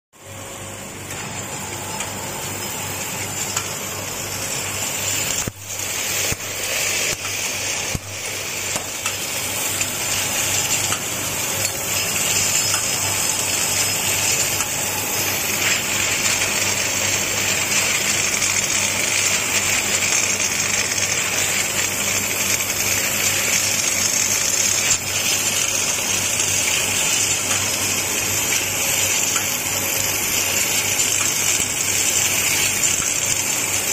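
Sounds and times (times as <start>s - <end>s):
machine motor hum: 0.2s - 33.9s.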